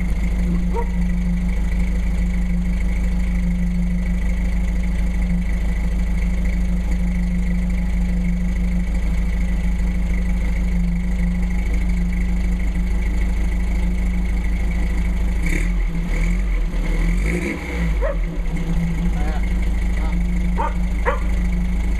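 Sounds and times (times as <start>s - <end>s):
short sounds over idle: 0.0s - 16.7s, 17.8s - 21.9s
car engine idling: 0.0s - 21.9s.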